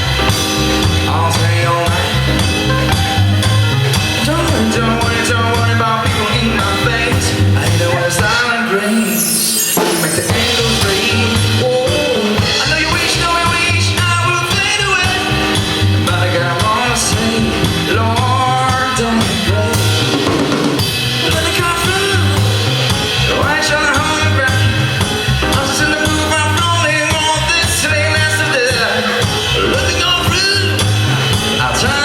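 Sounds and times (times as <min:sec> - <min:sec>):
drum kit steady beat: 0:00.0 - 0:32.0
live pop band through pa: 0:00.0 - 0:32.0.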